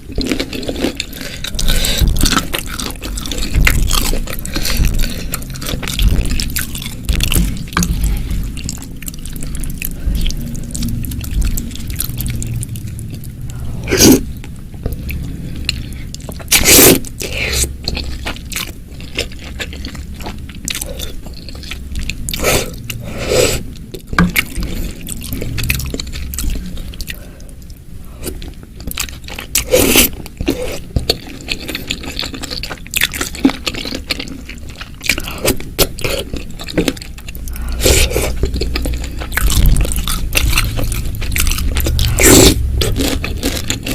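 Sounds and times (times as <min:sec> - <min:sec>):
chewing and crunching food: 0:00.0 - 0:43.9.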